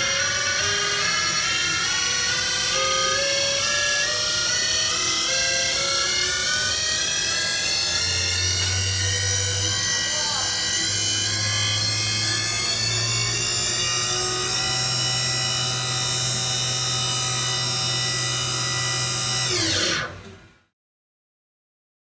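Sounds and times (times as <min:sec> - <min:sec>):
mill spindle whine: 0:00.0 - 0:20.7.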